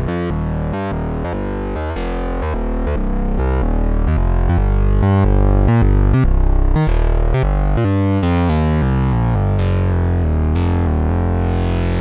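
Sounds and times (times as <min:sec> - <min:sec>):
synthesizer bass line: 0:00.0 - 0:12.0.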